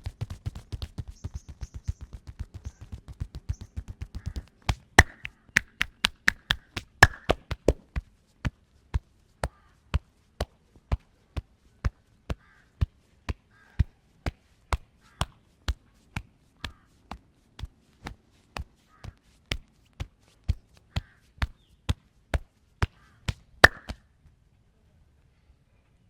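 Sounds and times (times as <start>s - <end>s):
hand slapping body: 0.0s - 24.1s.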